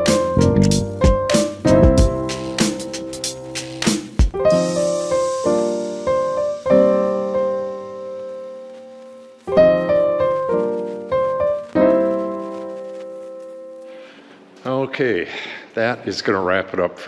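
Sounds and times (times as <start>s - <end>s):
piano chords: 0.0s - 14.6s.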